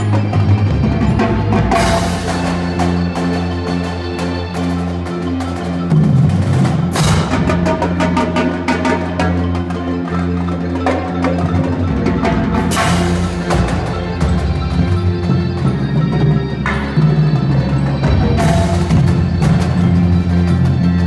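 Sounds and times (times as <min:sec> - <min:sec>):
electric guitars and synth notes: 0:00.0 - 0:21.0
mallet keyboard: 0:00.0 - 0:21.0
marching drums playing: 0:00.0 - 0:21.0.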